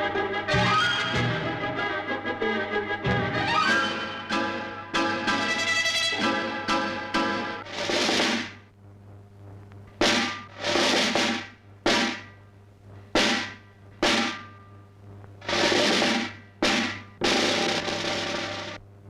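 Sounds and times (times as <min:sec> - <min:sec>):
drum rolls and cymbal strokes: 0:00.0 - 0:01.8, 0:02.8 - 0:08.8, 0:09.9 - 0:14.8, 0:15.4 - 0:18.9
low steady hum: 0:00.0 - 0:19.0.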